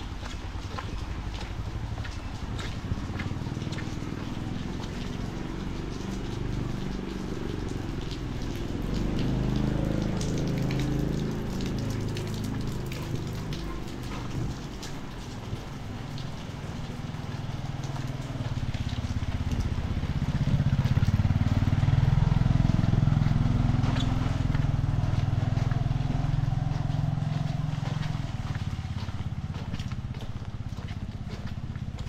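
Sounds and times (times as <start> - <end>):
motorcycle engine passing: 1.7 - 14.5, 17.4 - 31.8
rain hiss: 3.0 - 29.0.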